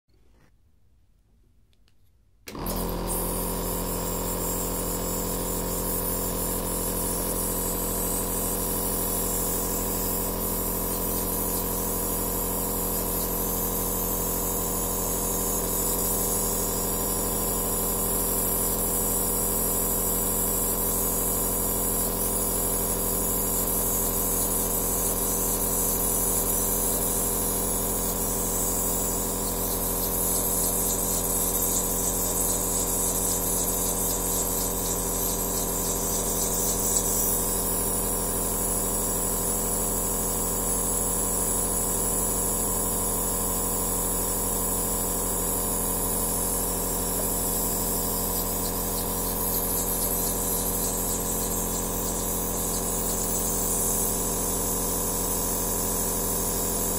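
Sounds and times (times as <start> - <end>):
nebulizer compressor humming and hissing: 2.5 - 56.9.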